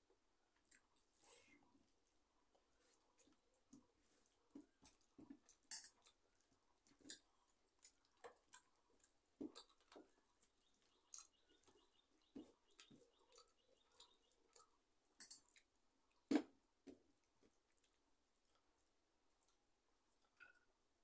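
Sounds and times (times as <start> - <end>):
chewing: 0.5 - 16.3, 16.9 - 20.8.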